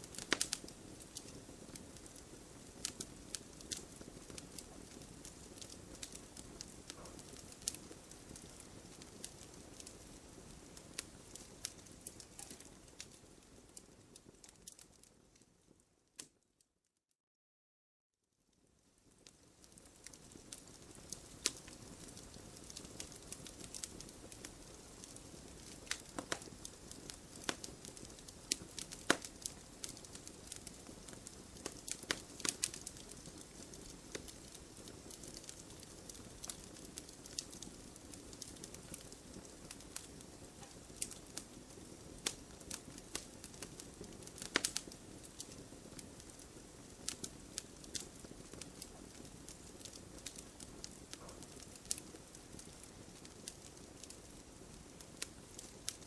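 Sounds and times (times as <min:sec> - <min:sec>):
wood fire hissing: 0:00.0 - 0:15.2, 0:19.0 - 0:56.0
fire crackles and pops: 0:00.0 - 0:16.6, 0:18.3 - 0:56.0.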